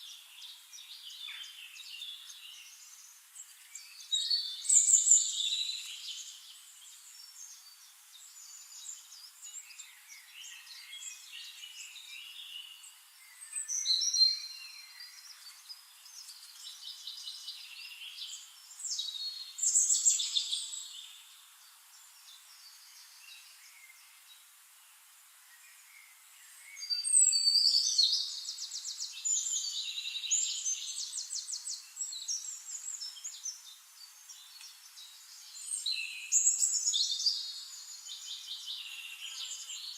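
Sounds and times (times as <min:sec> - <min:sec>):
birds chirping and trilling: 0:00.0 - 0:24.6, 0:25.5 - 0:39.9.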